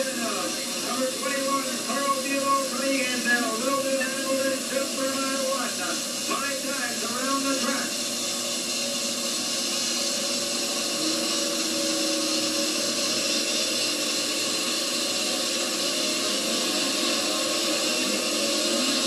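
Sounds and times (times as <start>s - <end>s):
snowmobile engines droning: 0.0s - 8.1s, 9.7s - 19.0s.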